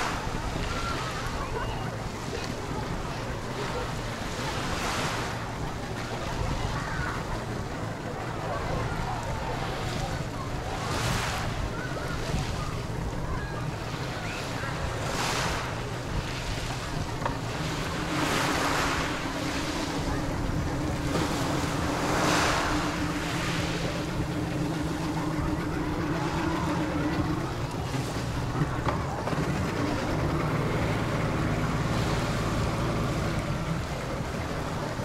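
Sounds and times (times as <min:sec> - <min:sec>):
motorboat engine drone: 0:00.0 - 0:35.0
waves washing over pebbles: 0:00.0 - 0:35.0
wind rumbling on microphone: 0:00.0 - 0:35.0.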